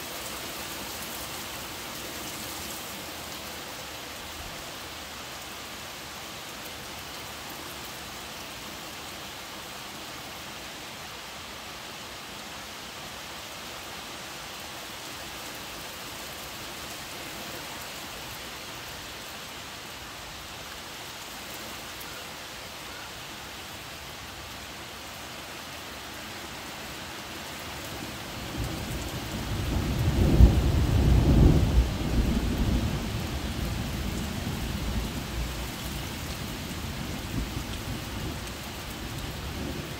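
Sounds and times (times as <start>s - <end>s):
rain falling on trees: 0.0s - 39.9s.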